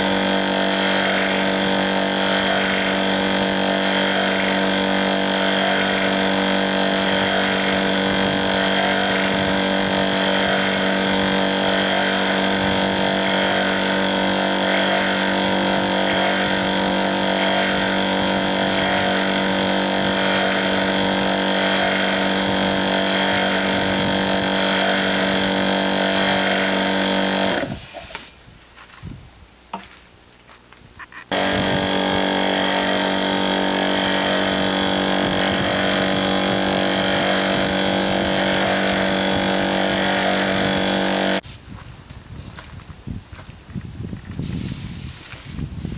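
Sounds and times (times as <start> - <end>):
air compressor humming and hissing: 0.0 - 28.4, 31.3 - 41.8, 44.4 - 45.9.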